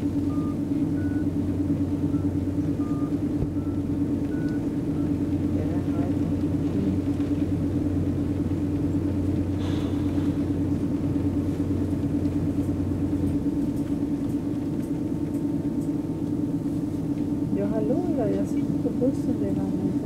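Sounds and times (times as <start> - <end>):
deeper hum: 0.0 - 20.0
engine drone: 0.0 - 20.0.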